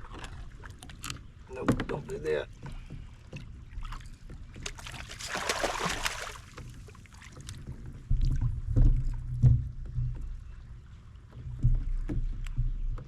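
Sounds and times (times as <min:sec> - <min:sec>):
low bumps through kayak hull: 0:01.5 - 0:13.0.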